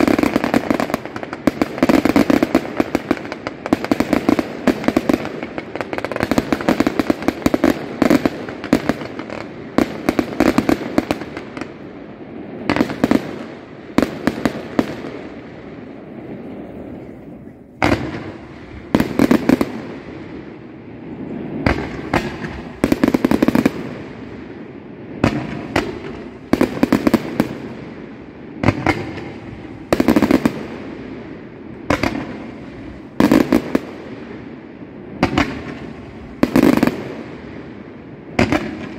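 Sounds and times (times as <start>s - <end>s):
loud firework bangs: 0.0s - 38.9s.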